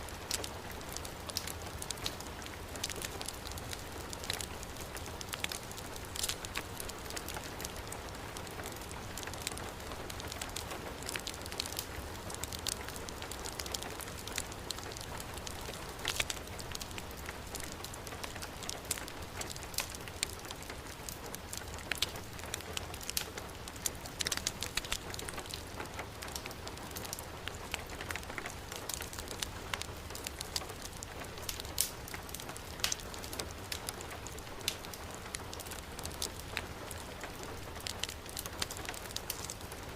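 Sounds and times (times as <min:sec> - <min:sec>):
heavy rain: 0:00.0 - 0:39.9
wood fire crackling and popping: 0:00.0 - 0:39.9.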